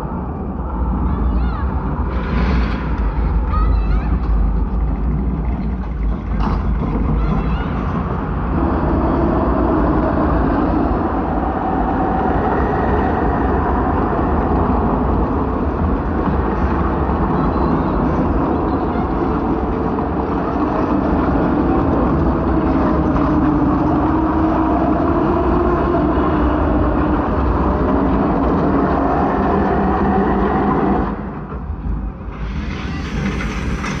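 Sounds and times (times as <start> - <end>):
tornado wind roaring: 0.0 - 34.0.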